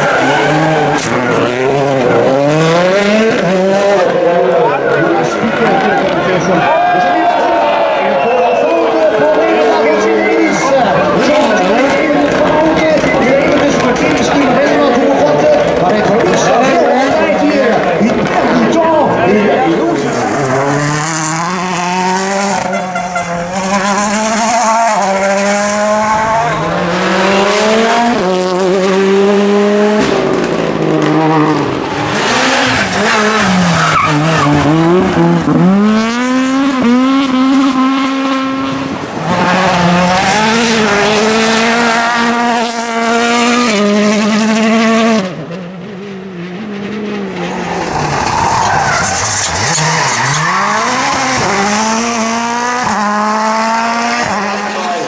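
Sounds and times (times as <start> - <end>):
rally car engines at full throttle: 0.0 - 55.0.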